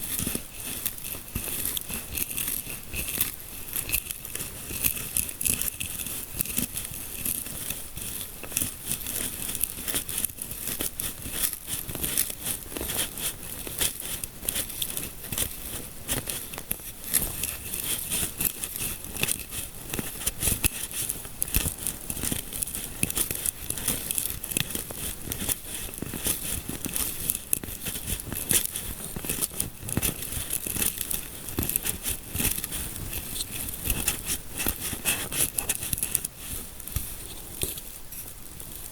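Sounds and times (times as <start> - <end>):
fingers scratching through hair: 0.0 - 38.4.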